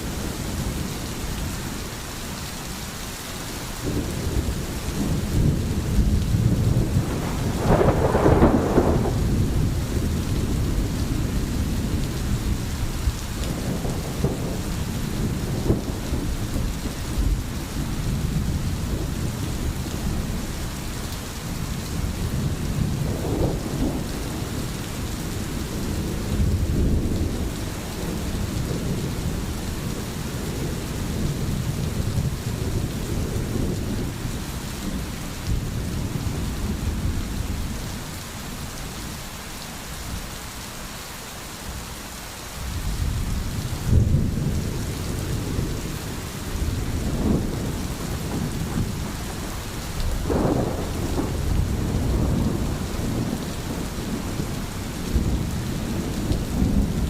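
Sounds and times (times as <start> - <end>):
steady rain: 0.0 - 57.0
rolling thunder: 3.8 - 20.5, 21.5 - 38.1, 42.6 - 57.0.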